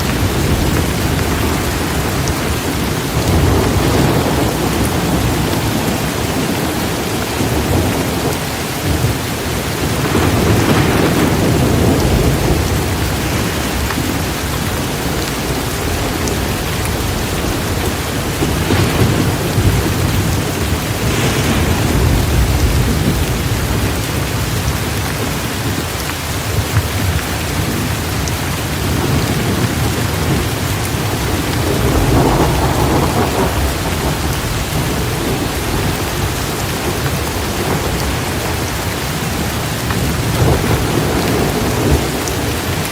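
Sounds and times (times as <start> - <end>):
thunder rumbling: 0.0 - 42.9
torrential rain pouring: 0.0 - 42.9.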